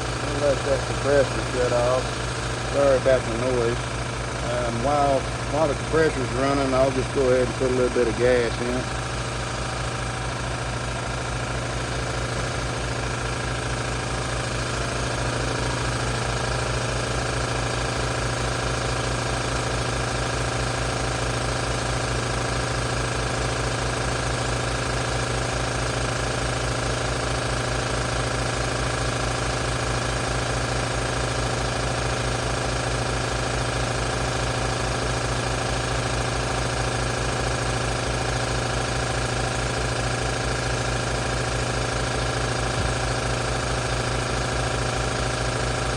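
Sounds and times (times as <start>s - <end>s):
piston air compressor running: 0.0s - 45.9s.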